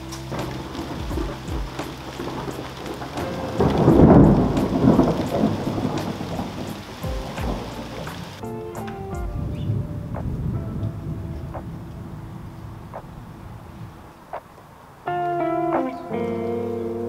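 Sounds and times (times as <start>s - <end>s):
steady rain falling: 0.0s - 17.0s
thunder rumbling: 0.0s - 17.0s.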